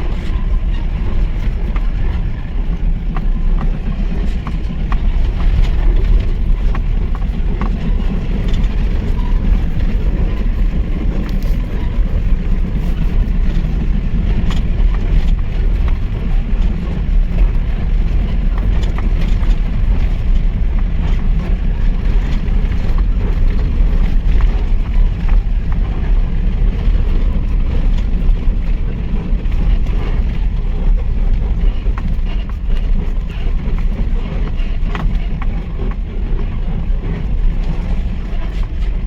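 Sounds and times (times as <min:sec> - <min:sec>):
truck engine and road rumble: 0:00.0 - 0:39.0.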